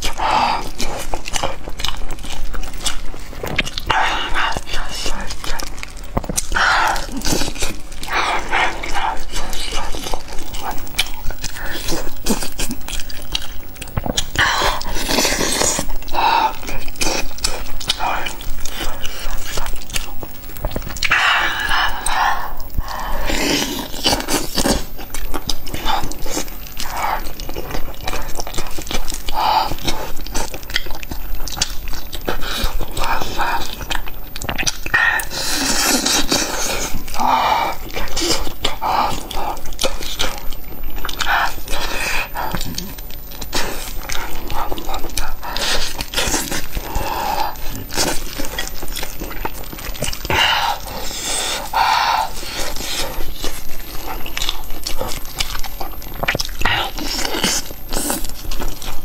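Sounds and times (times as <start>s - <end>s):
chewing and lip-smacking: 0.0s - 59.0s.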